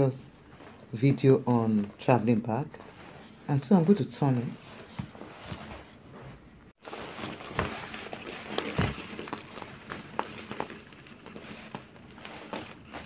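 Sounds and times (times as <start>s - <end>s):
faint rustling of bag: 0.0s - 13.0s.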